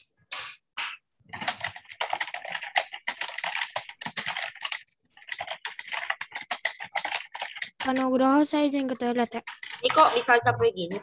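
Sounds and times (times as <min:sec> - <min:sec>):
fast keyboard typing: 0:01.3 - 0:11.0.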